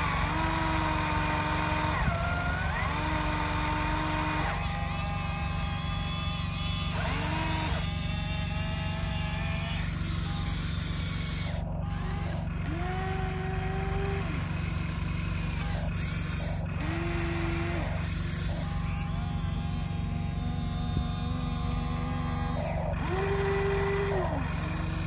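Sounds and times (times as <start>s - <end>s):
model excavator electric motor whine: 0.0s - 25.0s
steady low hum: 0.0s - 25.0s.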